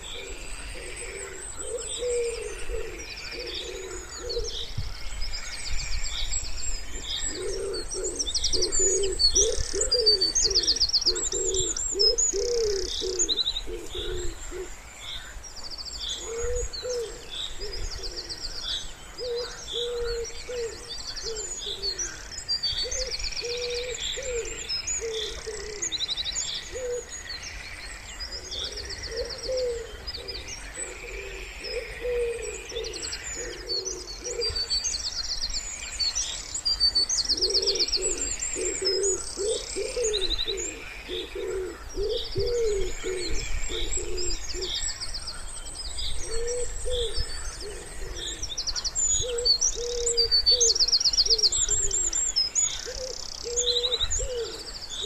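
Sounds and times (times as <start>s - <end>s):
wood pigeons cooing: 0.0s - 5.0s, 6.8s - 14.8s, 16.1s - 27.2s, 28.3s - 35.0s, 36.9s - 55.0s
small songbirds chirping and trilling: 0.0s - 55.0s.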